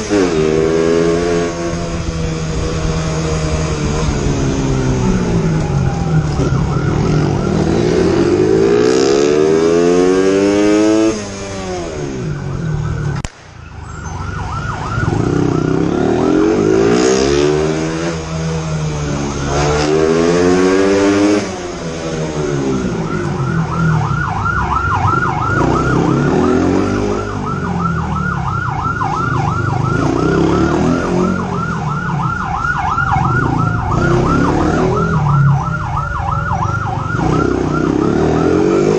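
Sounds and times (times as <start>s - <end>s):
motorcycle engine revving: 0.0s - 12.8s, 14.9s - 28.3s, 28.9s - 38.9s
police siren warbling: 0.0s - 13.2s, 13.8s - 38.9s.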